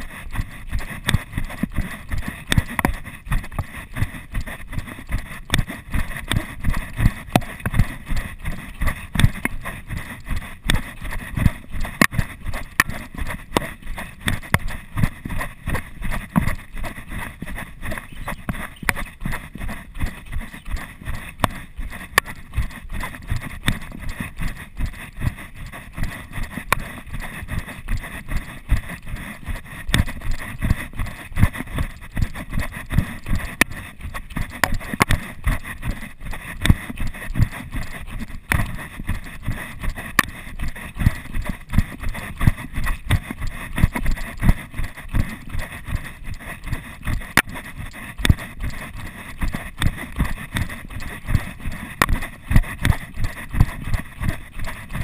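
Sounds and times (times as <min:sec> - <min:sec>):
running footsteps on dirt: 0:00.0 - 0:55.0.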